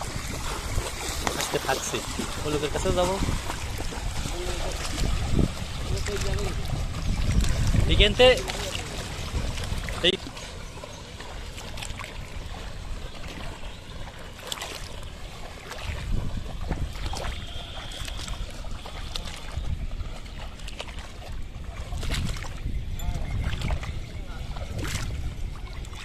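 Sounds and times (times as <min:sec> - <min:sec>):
muddy water sloshing and splashing: 0:00.0 - 0:26.0.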